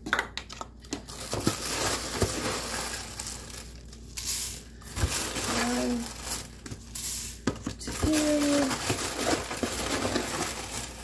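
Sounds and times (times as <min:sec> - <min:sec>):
bag crinkling: 0:00.9 - 0:11.0
cereal pouring into metal pot: 0:01.3 - 0:07.4, 0:08.1 - 0:11.0.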